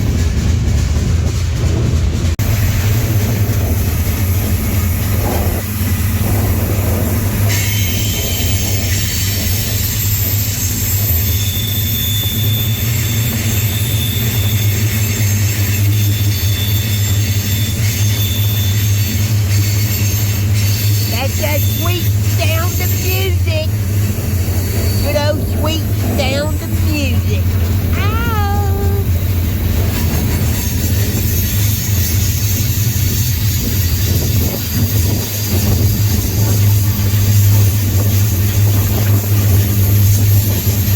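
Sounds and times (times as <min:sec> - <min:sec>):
freight train rumbling: 0:00.0 - 0:40.9.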